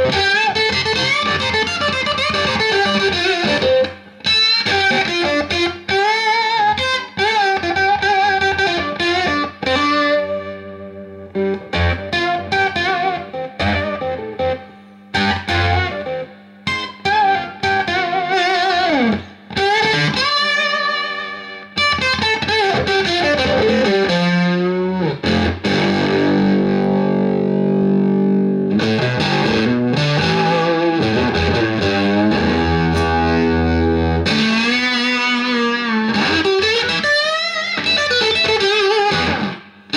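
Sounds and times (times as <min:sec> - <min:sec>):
fuzzy electric guitar: 0:00.0 - 0:39.9.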